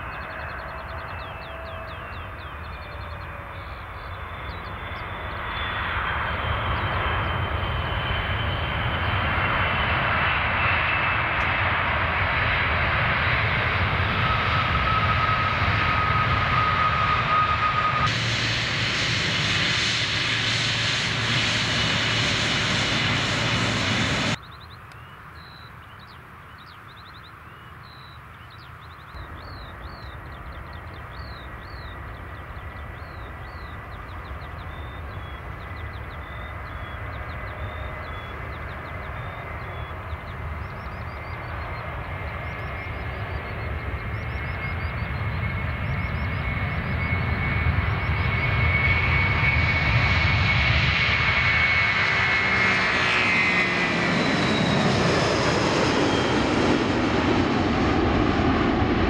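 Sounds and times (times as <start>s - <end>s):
loud jet engine noise: 0.0s - 25.0s, 27.8s - 59.0s
birds chirping: 0.0s - 59.0s
distant jet engine hum: 0.0s - 59.0s.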